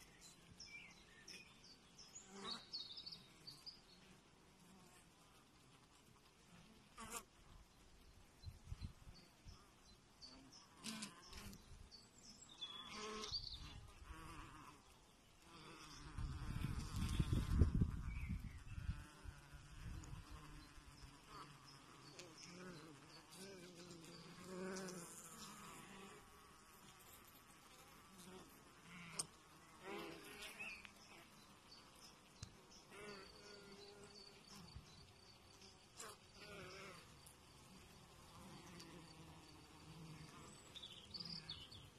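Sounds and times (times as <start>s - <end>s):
faint honeybee buzzing: 0.0s - 7.6s, 8.4s - 41.9s.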